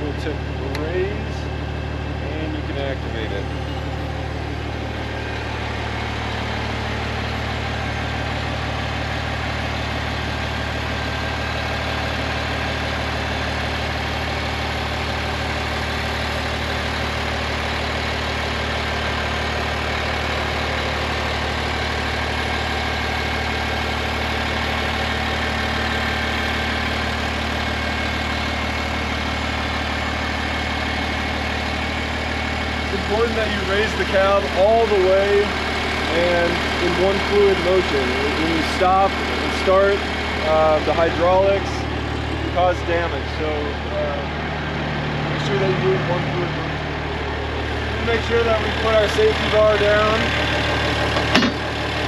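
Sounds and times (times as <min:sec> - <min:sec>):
diesel engine idling: 0:00.0 - 0:52.0
hydraulic pump whining: 0:00.0 - 0:52.0.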